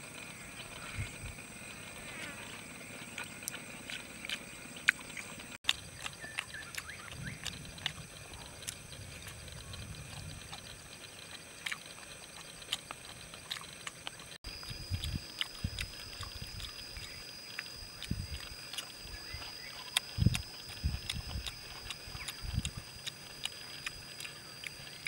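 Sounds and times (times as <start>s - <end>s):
man chewing and lip smacking: 2.5s - 25.0s.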